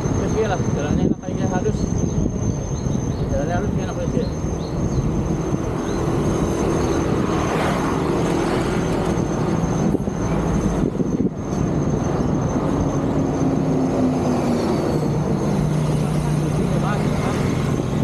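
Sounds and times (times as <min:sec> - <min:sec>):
busy road traffic: 0:00.0 - 0:18.0.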